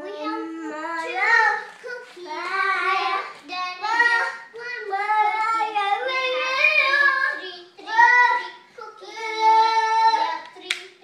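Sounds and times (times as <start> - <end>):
young child singing: 0.0 - 11.0.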